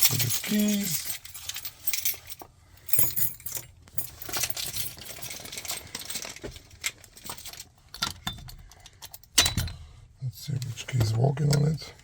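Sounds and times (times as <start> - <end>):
keys jangling: 0.0 - 9.6.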